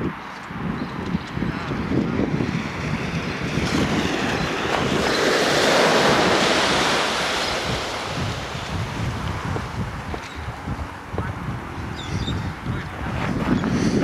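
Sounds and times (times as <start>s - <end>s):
broad rushing noise: 0.0s - 14.0s
wind buffeting microphone: 0.0s - 14.0s.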